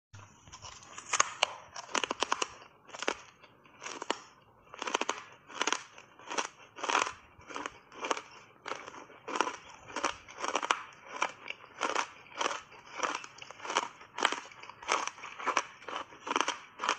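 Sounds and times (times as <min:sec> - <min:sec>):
ice crunching between teeth: 0:00.4 - 0:16.9.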